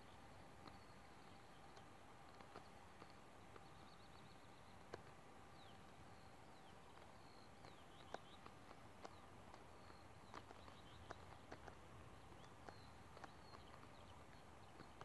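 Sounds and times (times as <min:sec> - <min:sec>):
faint steady hum: 0:00.0 - 0:15.0
small birds chirping: 0:00.0 - 0:15.0
soft clicks: 0:00.1 - 0:15.0.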